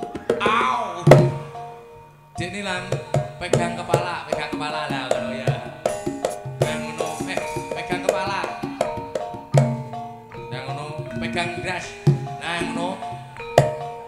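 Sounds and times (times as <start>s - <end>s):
hand drum strokes: 0.0s - 1.8s, 2.4s - 14.0s
melodic line bending in pitch: 0.0s - 14.0s
ringing metallophone notes: 0.0s - 14.0s.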